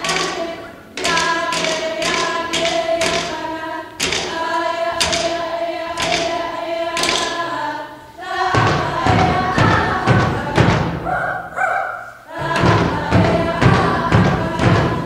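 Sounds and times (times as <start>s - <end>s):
sharp steady beat: 0.0s - 11.2s, 12.3s - 15.0s
young voices singing together: 0.0s - 15.0s.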